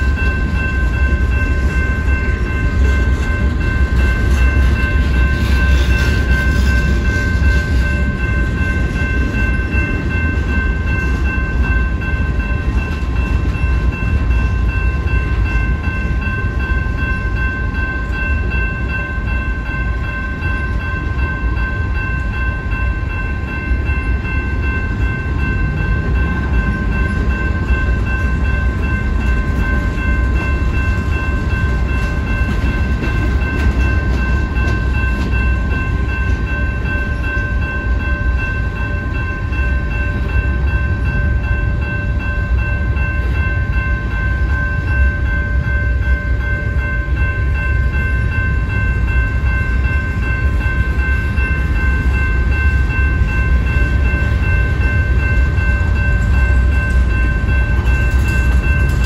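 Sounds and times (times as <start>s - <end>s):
crossing warning bell ringing: 0.0s - 59.0s
freight train wheels rumbling: 0.0s - 59.0s.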